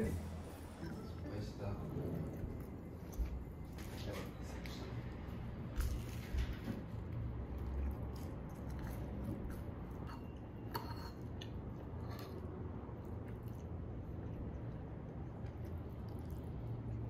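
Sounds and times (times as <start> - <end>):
chewing toast: 1.5 - 17.0.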